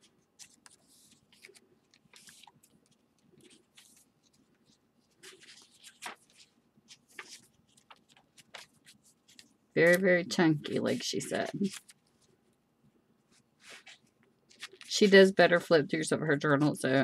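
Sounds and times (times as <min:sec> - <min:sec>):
paper pages turning: 0:00.0 - 0:12.4, 0:13.3 - 0:15.2.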